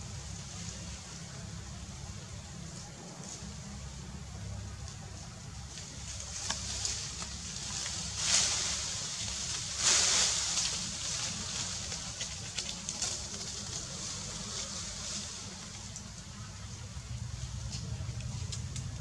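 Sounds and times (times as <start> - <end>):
leaves and branches rustling: 0.0 - 19.0.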